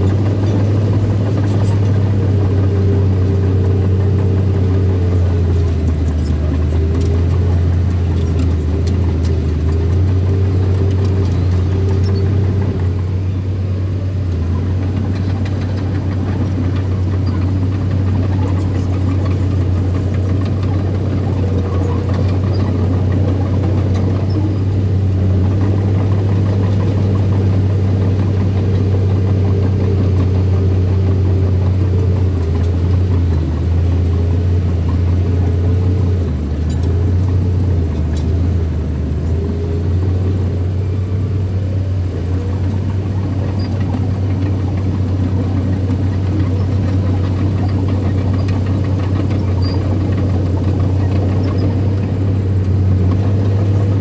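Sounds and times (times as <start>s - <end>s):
engine running with low hum: 0.0s - 54.0s.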